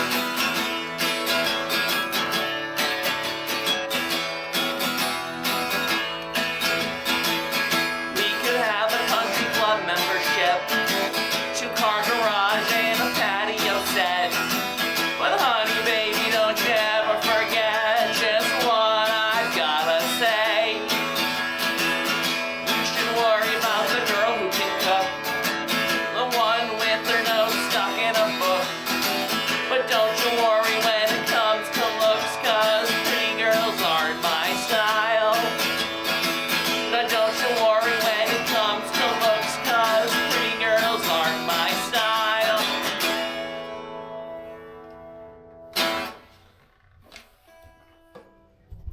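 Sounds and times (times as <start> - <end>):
strummed acoustic guitar: 0.0 - 48.6.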